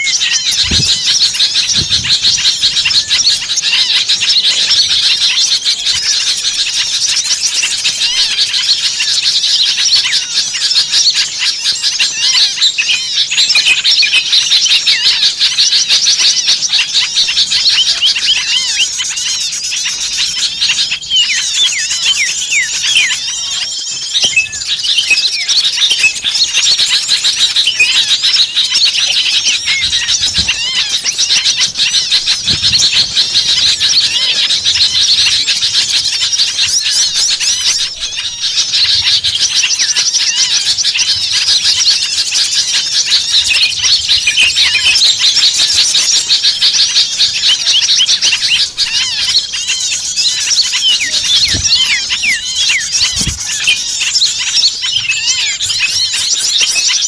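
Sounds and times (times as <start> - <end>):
chorus of small birds chirping: 0.0 - 57.0.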